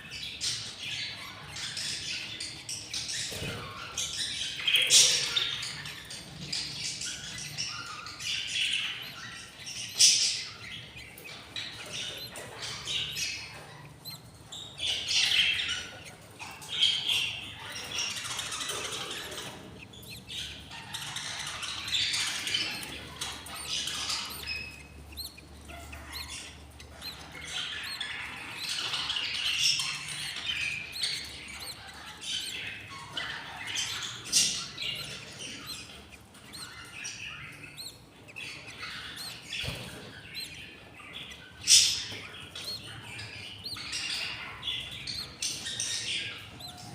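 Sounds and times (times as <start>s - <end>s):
budgerigars chirping and squawking: 0.0s - 46.9s.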